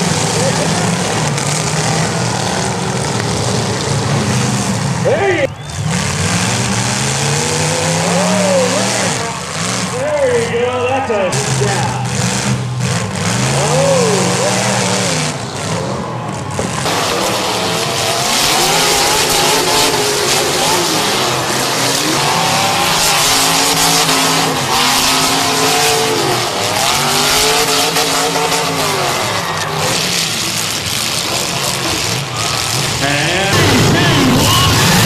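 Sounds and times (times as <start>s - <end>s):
car engines revving: 0.0s - 35.0s
steady noisy din: 0.0s - 35.0s.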